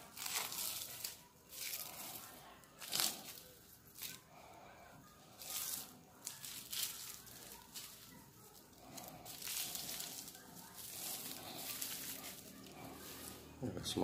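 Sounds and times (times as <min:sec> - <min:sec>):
plastic strands rustling on skin: 0:00.0 - 0:14.0.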